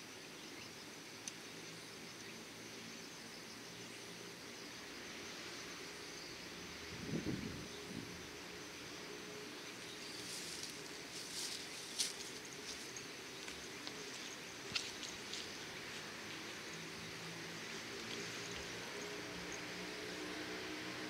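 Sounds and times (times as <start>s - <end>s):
low outdoor hiss: 0.0s - 21.0s.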